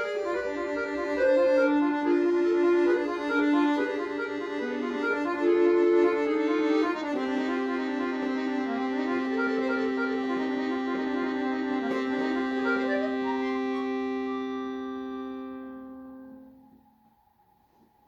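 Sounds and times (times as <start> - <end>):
accordion playing: 0.0 - 16.6.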